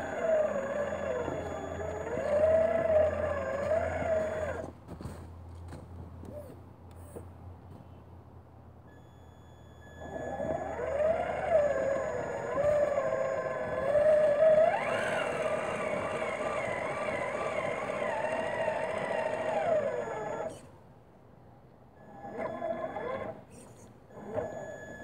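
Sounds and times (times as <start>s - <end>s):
electric motor and gears whining: 0.0s - 5.1s, 8.9s - 20.8s, 22.0s - 25.0s.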